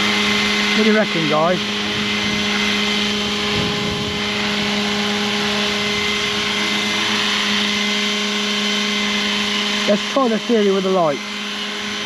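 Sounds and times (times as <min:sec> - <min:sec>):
rc helicopter whine: 0:00.0 - 0:12.0
rotor noise: 0:00.0 - 0:12.0.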